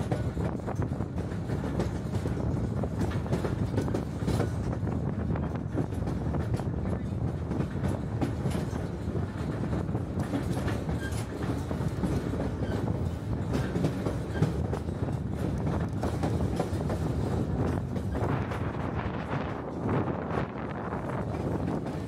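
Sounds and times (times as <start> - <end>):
wheels clicking over rail joints: 0.0 - 20.0
train rumbling: 0.0 - 22.0.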